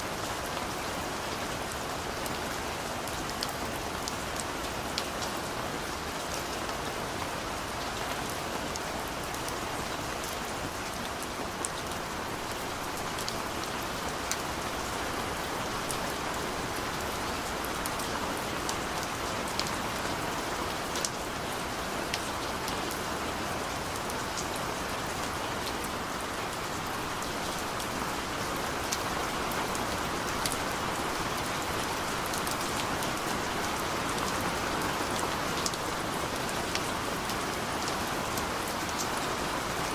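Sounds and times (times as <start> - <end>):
steady rain hiss: 0.0 - 39.9
raindrops ticking on a surface: 0.3 - 39.9.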